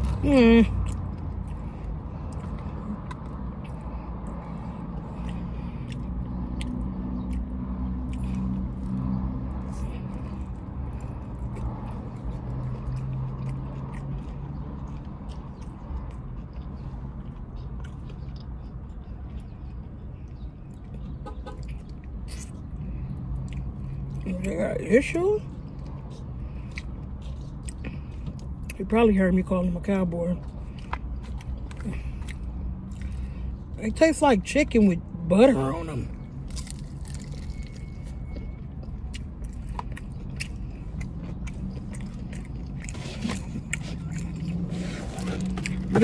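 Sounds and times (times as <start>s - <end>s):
wet chewing and lip smacking: 0.0s - 29.3s, 30.3s - 33.7s, 36.3s - 46.0s.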